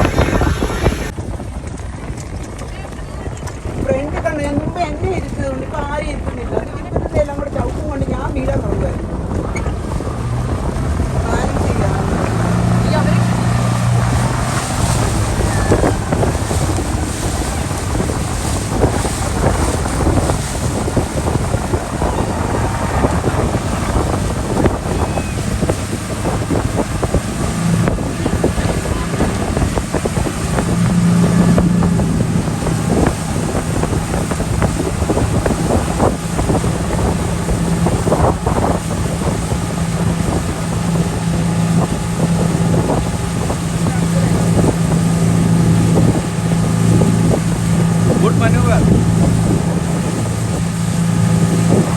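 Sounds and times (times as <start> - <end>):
speedboat engine running: 0.0 - 51.9
water rushing past hull: 0.0 - 51.9
wind buffeting microphone: 0.0 - 51.9.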